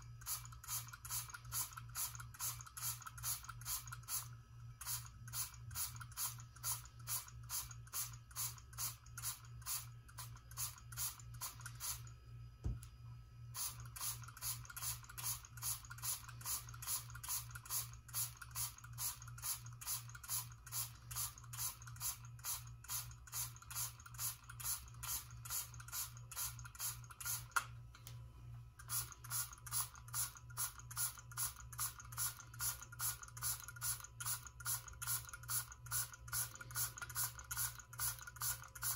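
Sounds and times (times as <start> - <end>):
trigger sprayer spraying: 0.2 - 12.0, 13.6 - 27.7, 28.8 - 38.9.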